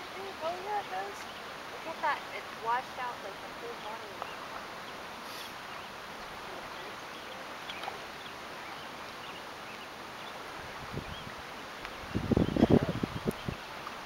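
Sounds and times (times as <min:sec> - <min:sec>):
small waves on water: 0:00.0 - 0:14.0
wind: 0:00.0 - 0:14.0.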